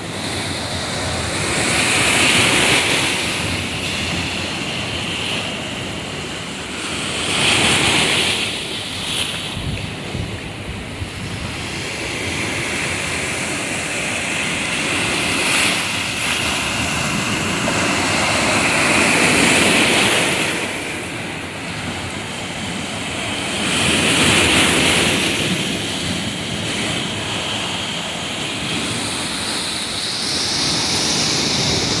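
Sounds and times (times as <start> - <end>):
sea surf over rocks: 0.0 - 32.0.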